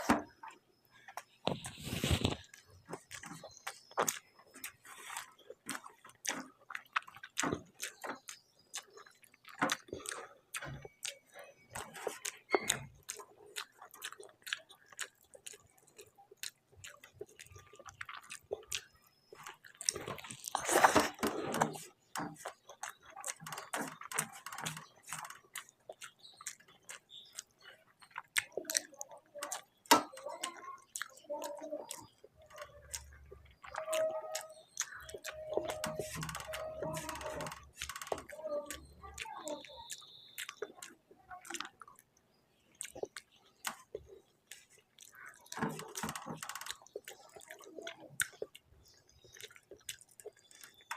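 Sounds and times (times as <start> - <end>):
wet chewing and lip smacks: 0.0 - 50.9.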